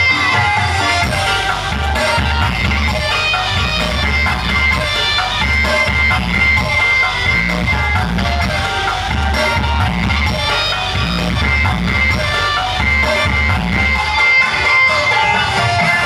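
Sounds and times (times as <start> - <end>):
loud music with bass beat: 0.0 - 16.0.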